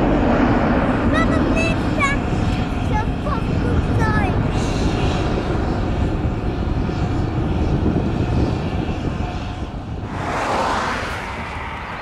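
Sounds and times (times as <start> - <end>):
jet engine low rumble: 0.0 - 12.0.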